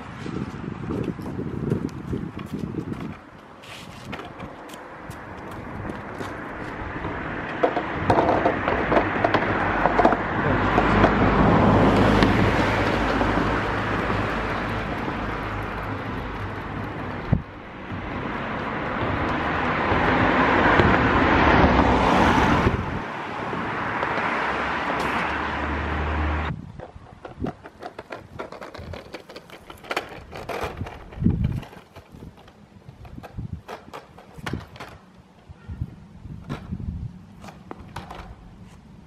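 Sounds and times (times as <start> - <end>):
wheels rolling over brick paving: 0.9 - 35.5, 36.4 - 38.9.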